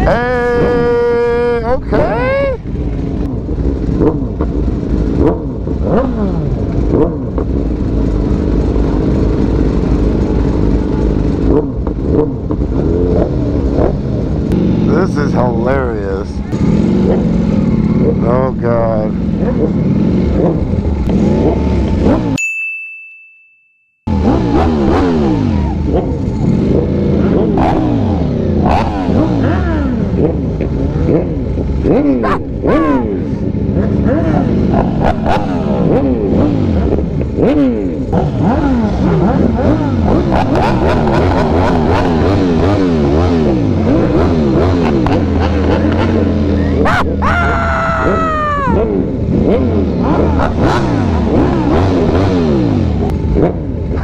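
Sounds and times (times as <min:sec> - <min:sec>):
sport bike engines idling: 0:00.0 - 0:22.3, 0:24.1 - 0:54.0.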